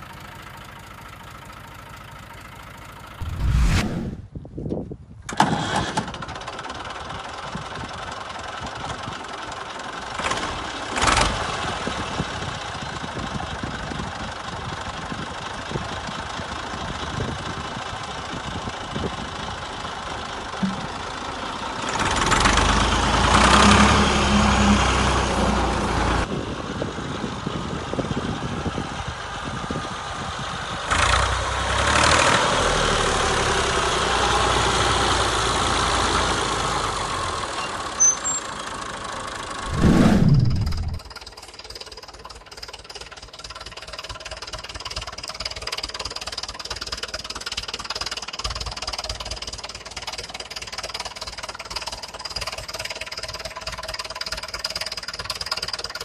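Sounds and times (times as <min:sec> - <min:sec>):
tractor engine starting and revving: 0:05.3 - 0:56.0.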